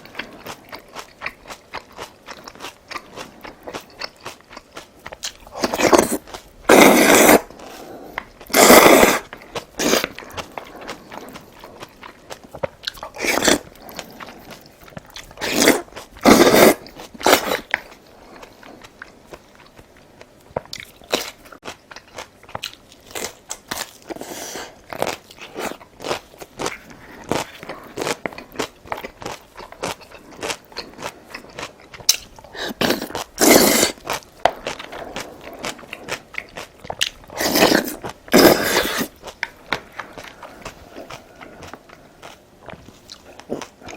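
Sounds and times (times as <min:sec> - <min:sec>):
chewing with small clicks: 0:00.0 - 0:06.5, 0:09.3 - 0:16.2, 0:16.8 - 0:24.2, 0:24.8 - 0:33.4, 0:34.0 - 0:38.2, 0:39.1 - 0:43.9.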